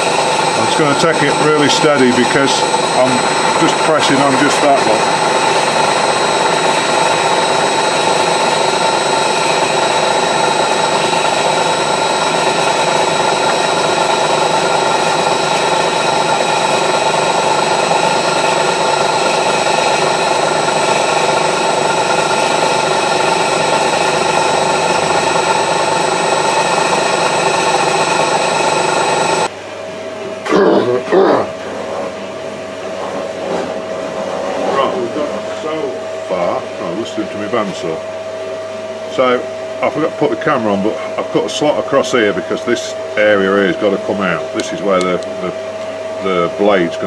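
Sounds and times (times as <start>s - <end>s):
machine hum: 0.0s - 47.0s
milling machine whine: 0.0s - 47.0s.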